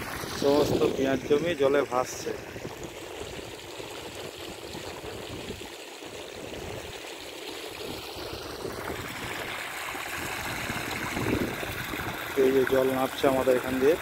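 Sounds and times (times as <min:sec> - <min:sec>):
rushing floodwater: 0:00.0 - 0:14.0.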